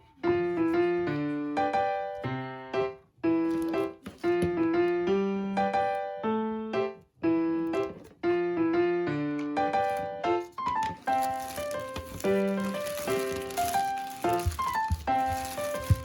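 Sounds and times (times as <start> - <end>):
plucked keyboard melody: 0.0 - 16.0.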